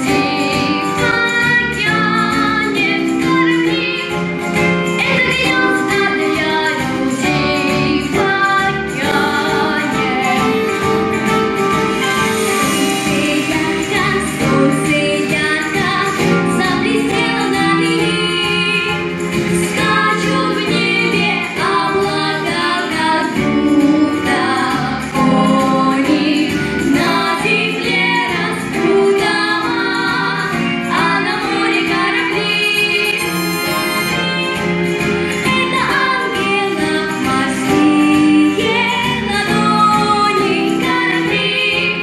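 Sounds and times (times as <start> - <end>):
boy and girl singing: 0.0 - 4.2, 4.9 - 10.8, 12.0 - 34.1, 35.3 - 42.0
instrumental accompaniment: 0.0 - 42.0.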